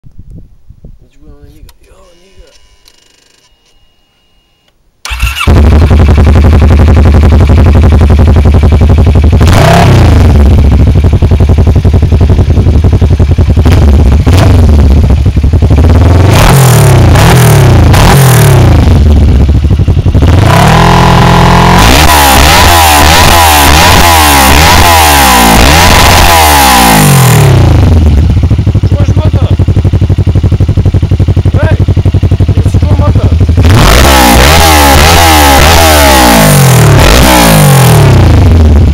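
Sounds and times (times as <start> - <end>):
motorcycle engine revving: 5.0 - 38.9.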